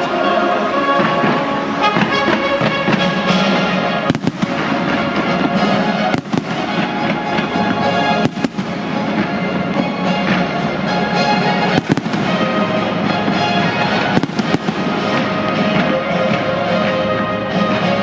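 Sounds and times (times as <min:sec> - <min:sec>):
loud music: 0:00.0 - 0:18.0
fireworks bangs: 0:00.9 - 0:17.8.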